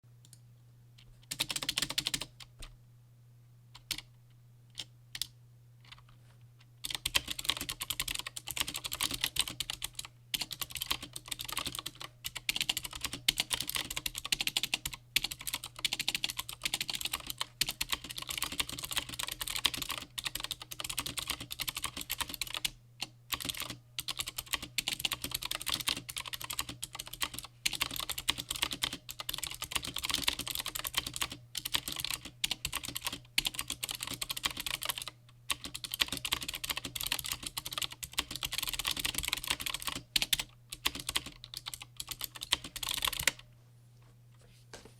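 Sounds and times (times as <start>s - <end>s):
typing on clicky keyboard: 1.3s - 2.5s, 3.8s - 4.1s, 6.8s - 22.7s, 23.3s - 43.4s.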